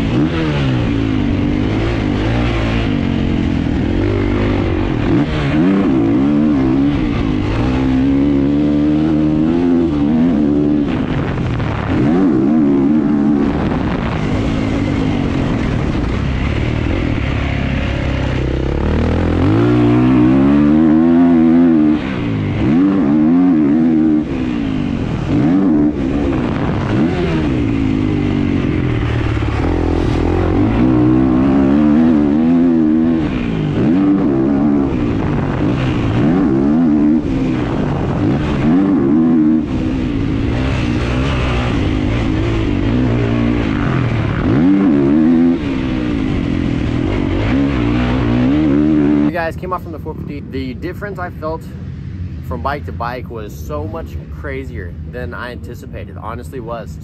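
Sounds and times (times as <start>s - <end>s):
motocross engine revving: 0.0s - 51.8s.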